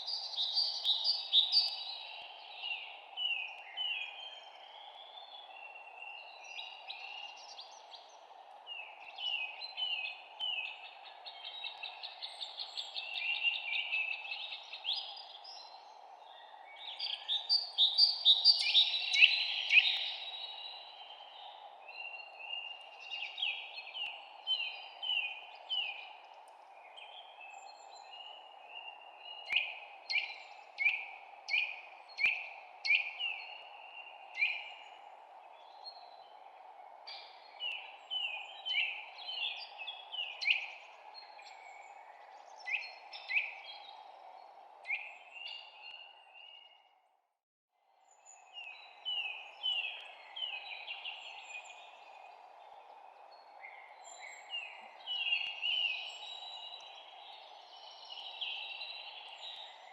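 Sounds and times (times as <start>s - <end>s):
songbirds chirping: 0.0s - 47.2s, 47.9s - 59.9s.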